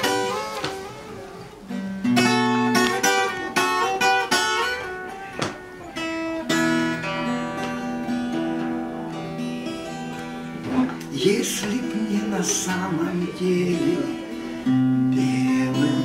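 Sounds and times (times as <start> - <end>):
acoustic guitar strumming and plucking: 0.0 - 16.0.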